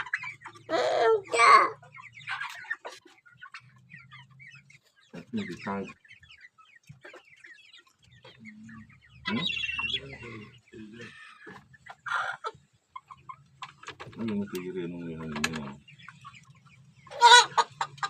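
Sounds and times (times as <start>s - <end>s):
chicken squawk: 0.0s - 14.1s, 16.0s - 18.0s
chickens clucking: 0.0s - 18.0s.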